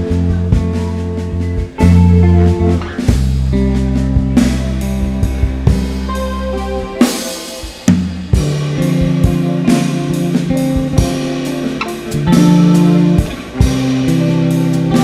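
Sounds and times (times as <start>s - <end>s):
bass notes: 0.0s - 15.0s
drum and cymbal hits: 0.0s - 15.0s
guitar: 0.0s - 15.0s.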